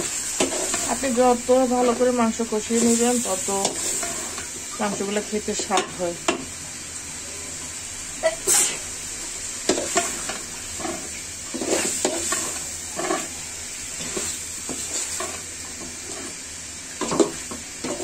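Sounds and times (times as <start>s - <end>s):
food sizzling: 0.0s - 18.0s.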